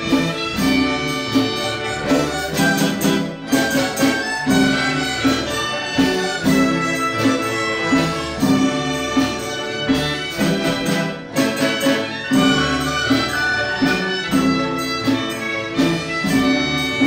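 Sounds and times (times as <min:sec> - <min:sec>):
orchestra playing ensemble piece: 0:00.0 - 0:17.0.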